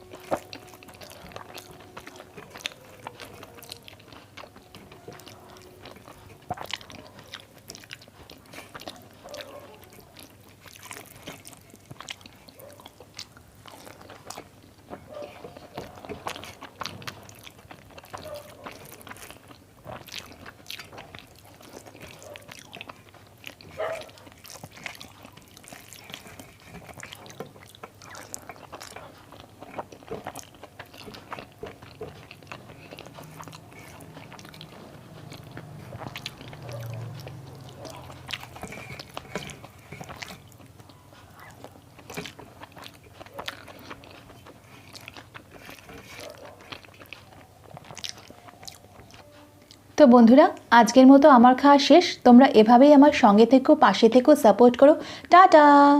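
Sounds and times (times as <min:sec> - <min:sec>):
crunch: 0:00.0 - 0:49.8
person chewing food: 0:00.0 - 0:51.4.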